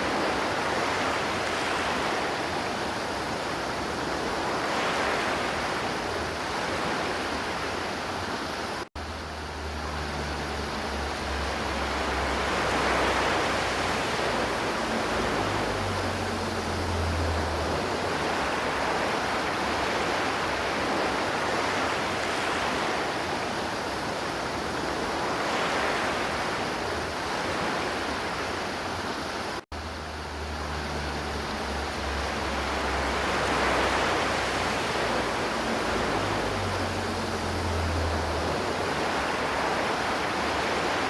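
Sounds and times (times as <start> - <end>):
river flowing: 0.0 - 41.0.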